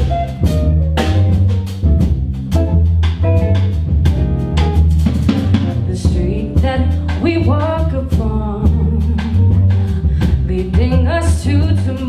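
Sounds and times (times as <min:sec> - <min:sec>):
bass line: 0:00.0 - 0:12.0
drum kit: 0:00.0 - 0:12.0.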